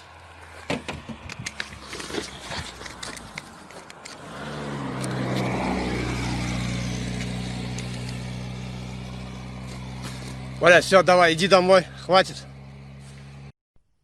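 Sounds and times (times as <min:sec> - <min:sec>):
car engine running: 0:00.0 - 0:13.5.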